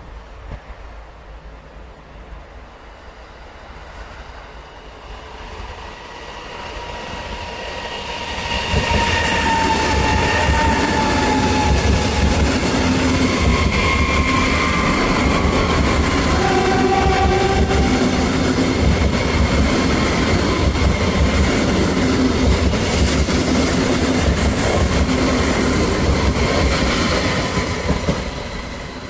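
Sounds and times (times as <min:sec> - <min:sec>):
high-speed train passing: 0:00.0 - 0:29.0.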